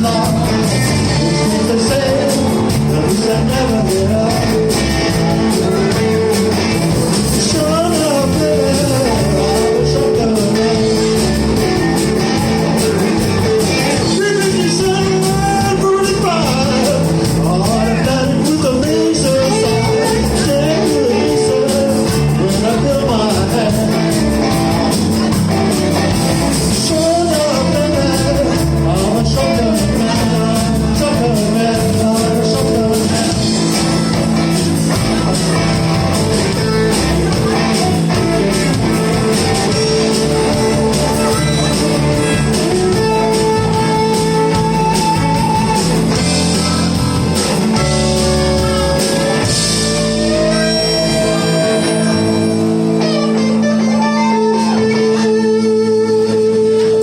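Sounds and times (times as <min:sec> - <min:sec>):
electric blues band playing: 0:00.0 - 0:57.0
lead guitar wailing: 0:00.0 - 0:57.0.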